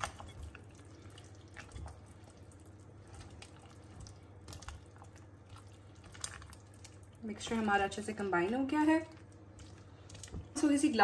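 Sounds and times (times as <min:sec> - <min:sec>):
wet squelches of stirring: 0:00.0 - 0:11.0.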